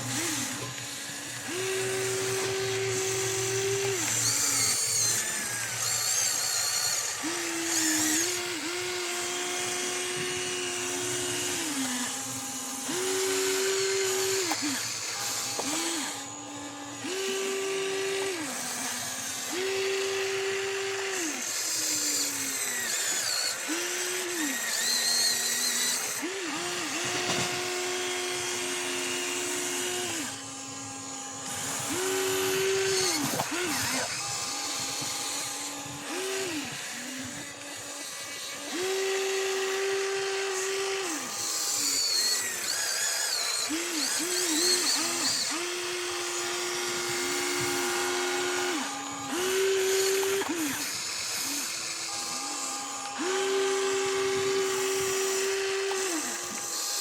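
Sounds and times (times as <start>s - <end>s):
small electric motors whining: 0.0s - 57.0s.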